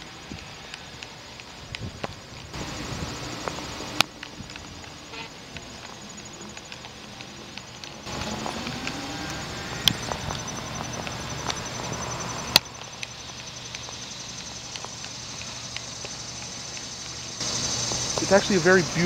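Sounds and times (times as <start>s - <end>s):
high insect trill: 0.0s - 19.0s
sharp clicks: 3.4s - 18.8s.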